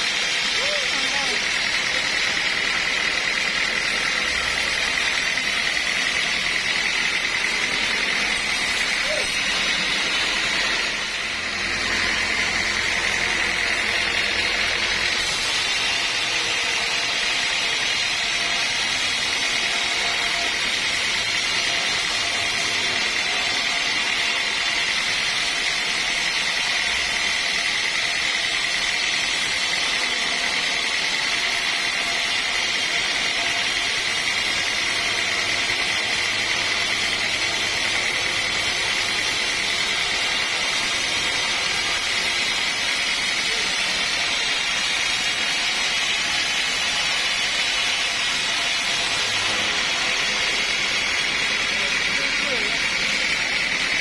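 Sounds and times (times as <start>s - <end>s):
sawmill machinery with high whine: 0.0s - 54.0s.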